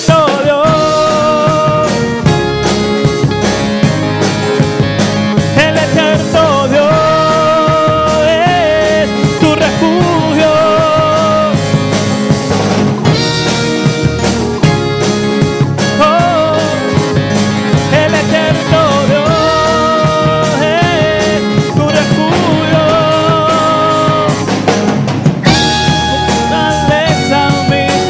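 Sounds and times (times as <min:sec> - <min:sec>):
drum kit beat: 0:00.0 - 0:28.0
worship band playing: 0:00.0 - 0:28.0
wavering lead melody: 0:00.6 - 0:28.0.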